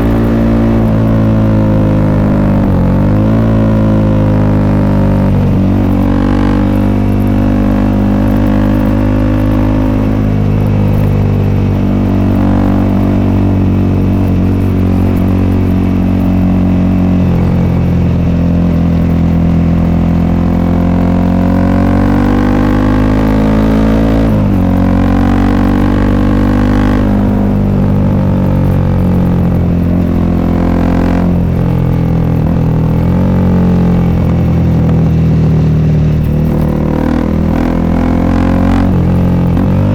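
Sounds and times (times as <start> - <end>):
motorcycle engine exhaust: 0.0 - 39.9.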